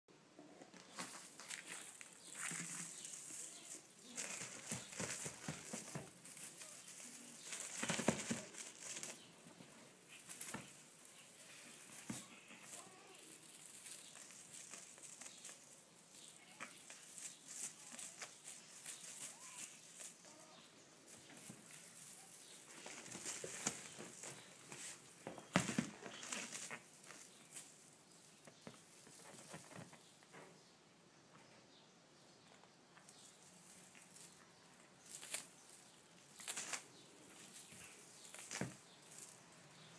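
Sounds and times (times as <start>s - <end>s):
kitten rustling and scuffing: 0.7s - 30.4s, 33.0s - 39.9s.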